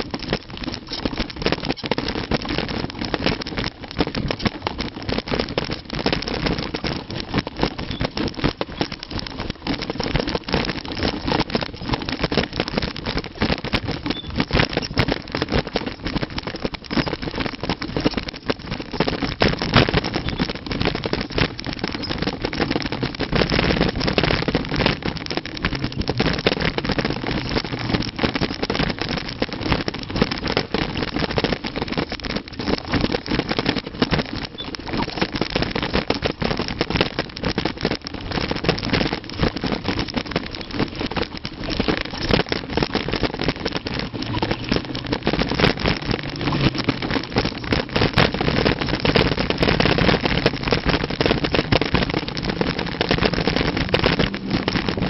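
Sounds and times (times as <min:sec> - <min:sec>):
bike rattling: 0:00.0 - 0:55.0
wind and tyre noise: 0:00.0 - 0:55.0.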